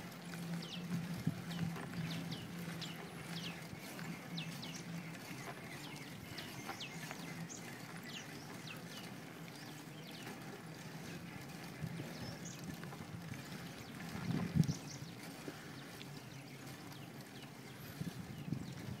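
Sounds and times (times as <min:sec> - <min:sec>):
birds chirping falling calls: 0:00.3 - 0:19.0.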